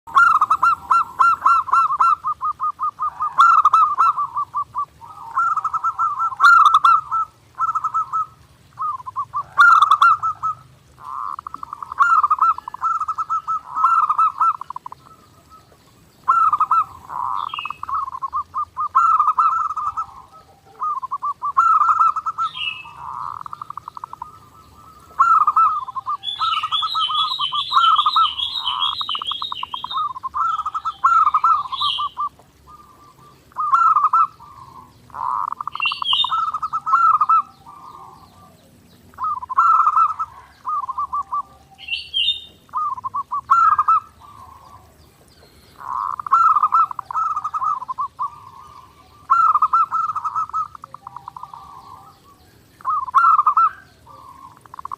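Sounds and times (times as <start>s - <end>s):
dove cooing: 0.1s - 54.9s.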